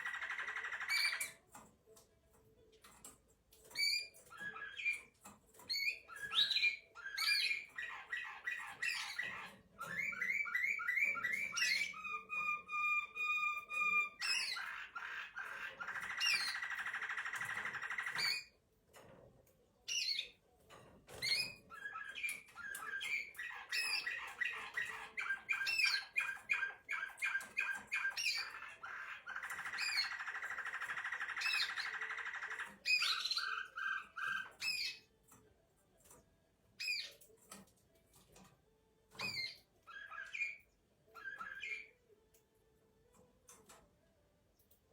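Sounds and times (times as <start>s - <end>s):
canary singing: 0.0s - 18.6s, 21.1s - 35.4s, 36.0s - 44.7s.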